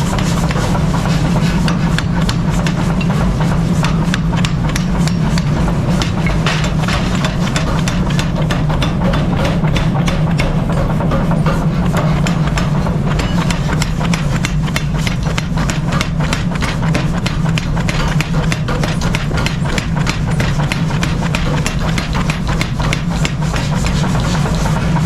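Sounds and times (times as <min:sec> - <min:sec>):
fast sharp knocks: 0:01.4 - 0:25.0.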